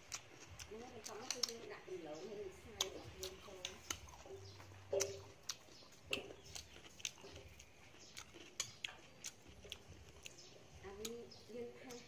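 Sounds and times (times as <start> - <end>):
chewing clicks: 0.0 - 1.8, 2.7 - 12.0.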